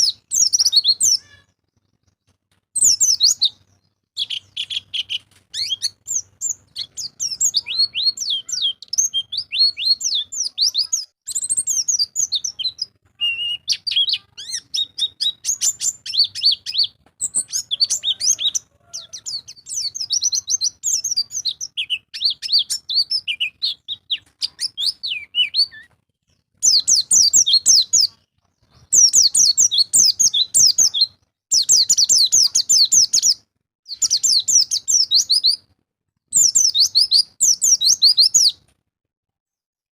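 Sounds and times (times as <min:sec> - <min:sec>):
bird twittering song: 0:00.0 - 0:35.6, 0:36.3 - 0:38.6.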